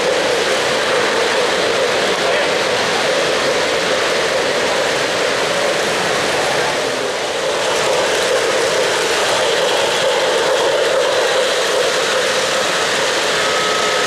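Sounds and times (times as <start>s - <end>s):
model train wheels rolling on track: 0.0s - 14.0s.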